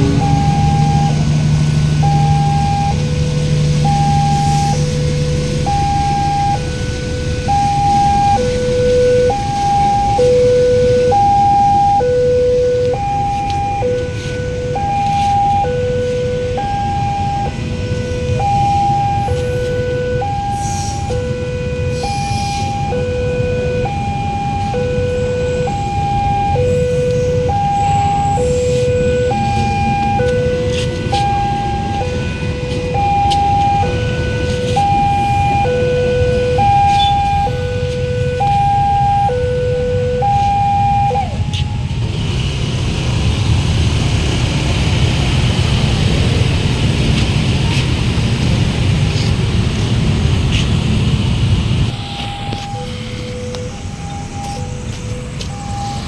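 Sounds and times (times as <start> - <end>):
steady low drone: 0.0 - 56.0
steady low rumble: 0.0 - 56.0
two-tone warning siren: 0.0 - 56.0.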